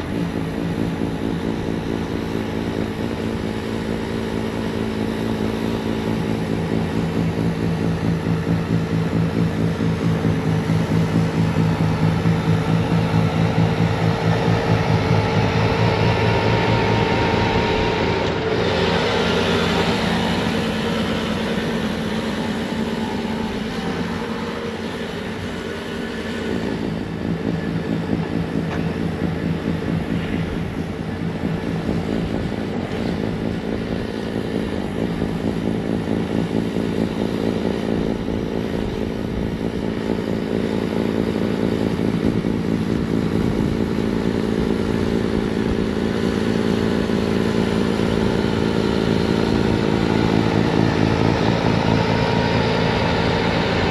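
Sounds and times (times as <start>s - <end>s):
diesel engine running steadily: 0.0s - 53.9s.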